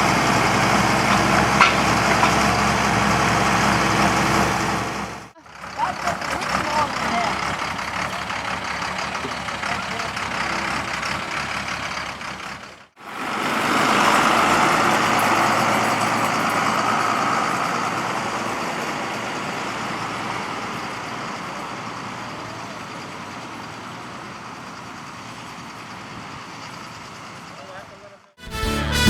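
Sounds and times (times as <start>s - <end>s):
heavy machinery rumbling: 0.0s - 28.2s.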